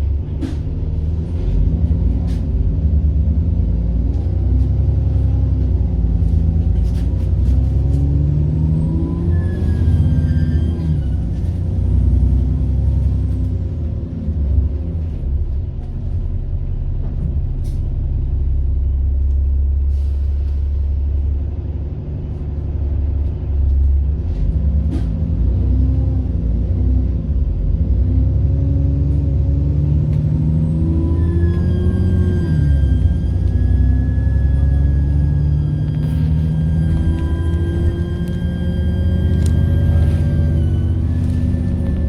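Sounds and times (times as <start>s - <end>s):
bus engine with turbo whine: 0.0s - 42.0s.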